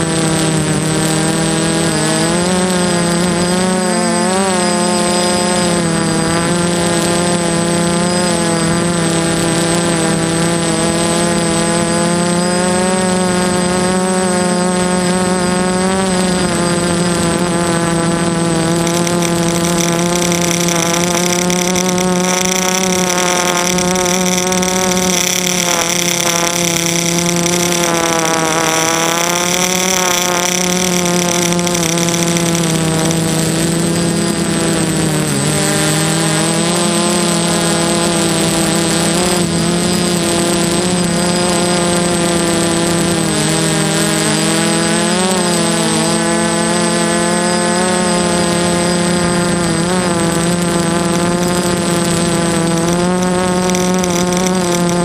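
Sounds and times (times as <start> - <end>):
quadcopter propellers buzzing: 0.0 - 55.0
thin high whine: 0.0 - 55.0.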